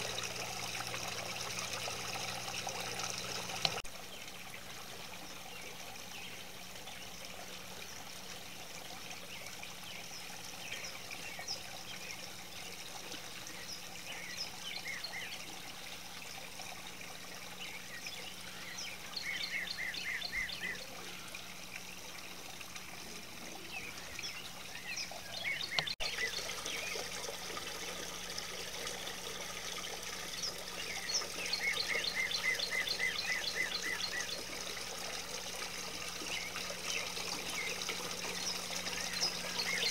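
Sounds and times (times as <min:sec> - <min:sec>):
birds chirping: 0:00.0 - 0:16.0, 0:17.2 - 0:27.4, 0:29.3 - 0:34.8, 0:35.8 - 0:39.9
water trickling: 0:00.0 - 0:39.9.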